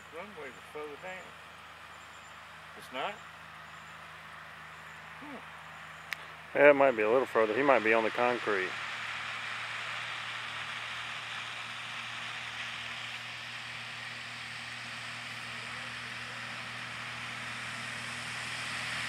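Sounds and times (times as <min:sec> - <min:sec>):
distant light aircraft engine: 0:00.0 - 0:19.0.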